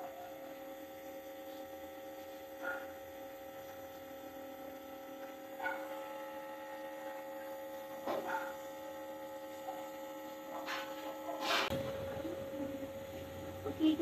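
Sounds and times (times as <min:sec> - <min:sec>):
nebulizer compressor humming: 0:00.0 - 0:14.0.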